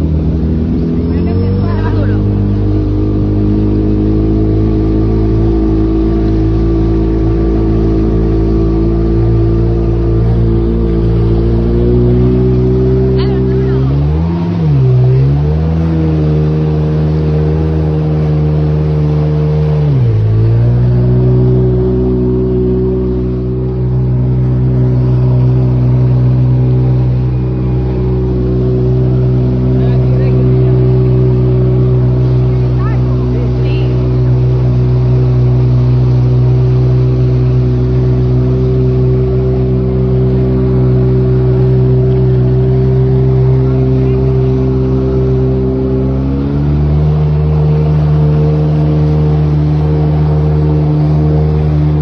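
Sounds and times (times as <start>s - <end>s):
jet ski engine running: 0.0s - 52.0s
water rushing: 0.0s - 52.0s
wind: 0.0s - 52.0s.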